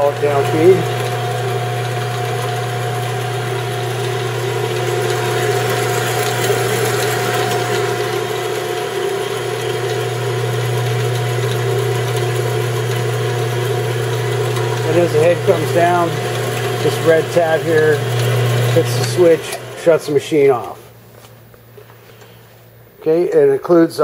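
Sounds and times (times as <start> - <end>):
bandsaw humming and whining: 0.0 - 21.0
coolant pump running: 0.0 - 24.0.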